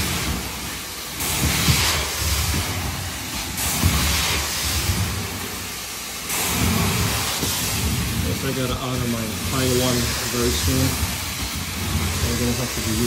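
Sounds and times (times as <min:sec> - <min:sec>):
extraction wand spray and suction hiss: 0:00.0 - 0:13.0.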